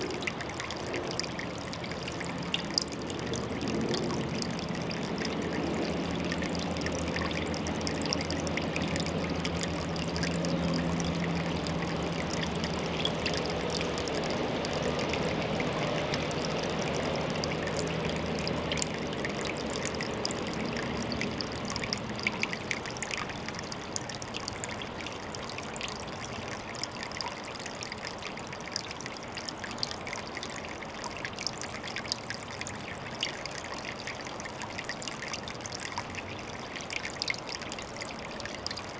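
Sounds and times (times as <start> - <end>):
low steady hum: 0.0 - 31.6
water trickling into a pond: 0.0 - 38.9.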